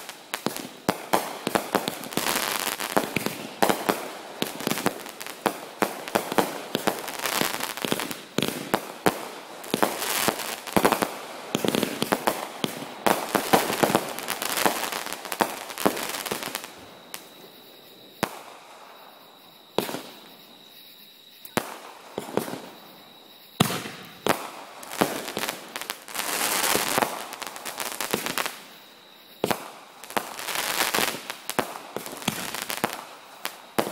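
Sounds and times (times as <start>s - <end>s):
fireworks bangs and crackles: 0.0s - 20.7s, 21.4s - 33.9s.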